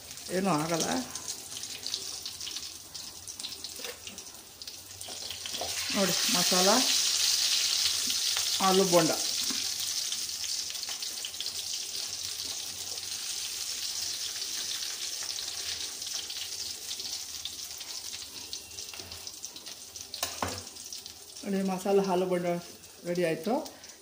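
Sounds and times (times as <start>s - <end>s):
hot oil sizzling and crackling: 0.0s - 24.0s.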